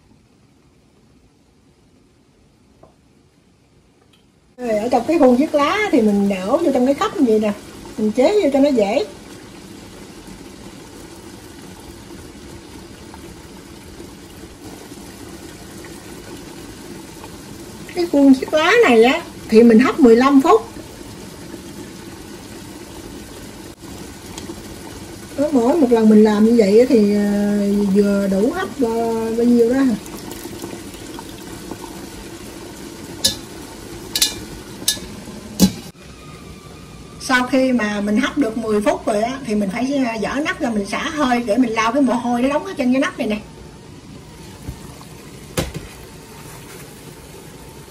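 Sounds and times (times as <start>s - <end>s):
water boiling in a pot: 0.0s - 47.9s.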